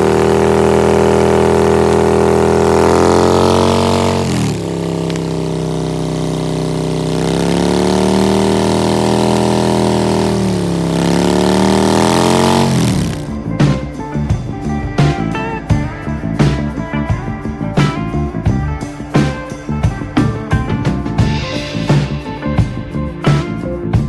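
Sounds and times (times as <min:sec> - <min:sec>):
motorcycle engine running: 0:00.0 - 0:20.5
guitar music: 0:00.0 - 0:24.0.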